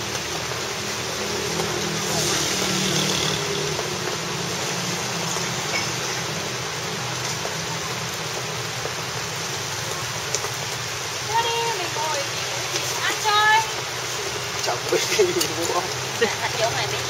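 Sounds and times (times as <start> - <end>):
heavy rain on umbrella and street: 0.0 - 17.0
motorbike traffic hum: 0.0 - 17.0.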